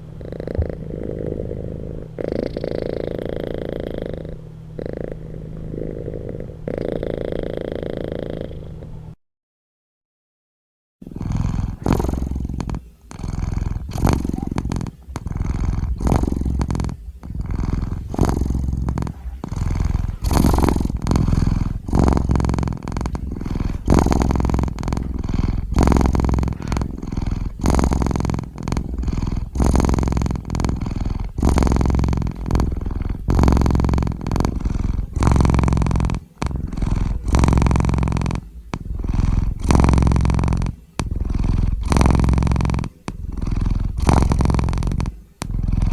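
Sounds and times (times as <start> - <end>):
cat purring: 0.0 - 9.2, 11.0 - 45.9.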